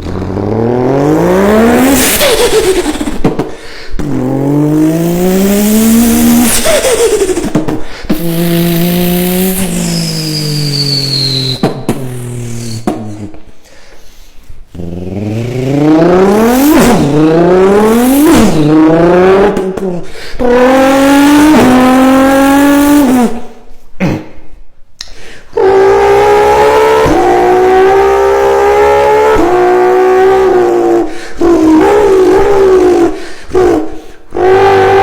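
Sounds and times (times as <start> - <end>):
person imitating car engine: 0.0 - 13.6, 14.7 - 24.3, 25.5 - 35.0.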